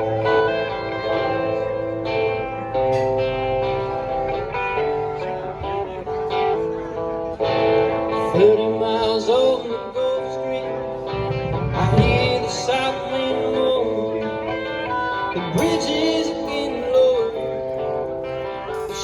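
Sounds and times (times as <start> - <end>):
country-rock band playing: 0.0 - 19.0.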